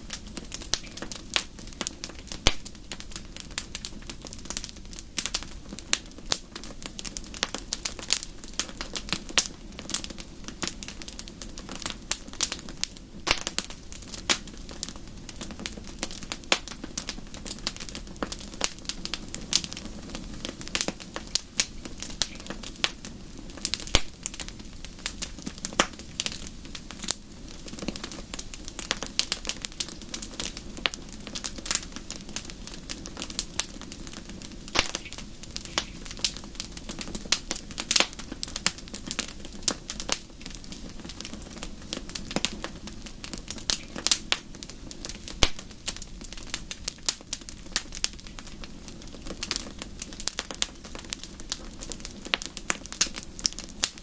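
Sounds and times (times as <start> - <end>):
low rushing of flames: 0.0 - 54.0
wood fire crackling and popping: 0.0 - 54.0.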